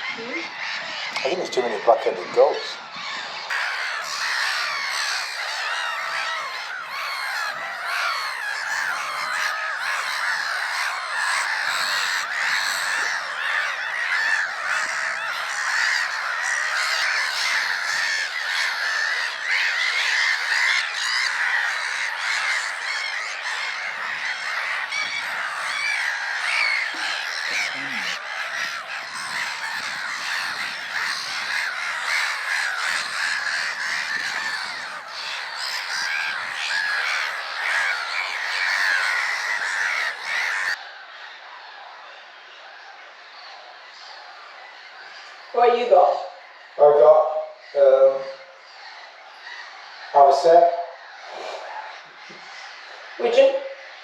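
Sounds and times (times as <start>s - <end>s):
gulls squawking in chorus: 0.0s - 54.0s.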